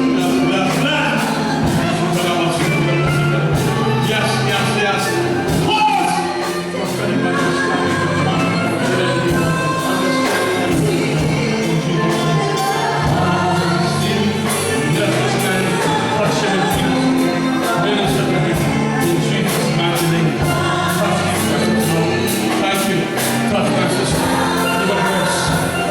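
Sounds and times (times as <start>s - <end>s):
band with percussion beat: 0.0s - 25.9s
voices singing together: 0.0s - 25.9s.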